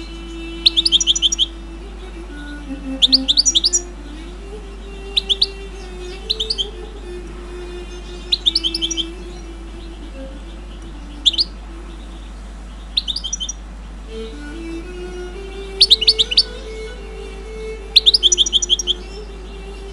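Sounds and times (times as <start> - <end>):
faint low tune: 0.0 - 19.9
songbird chirping: 0.0 - 19.9.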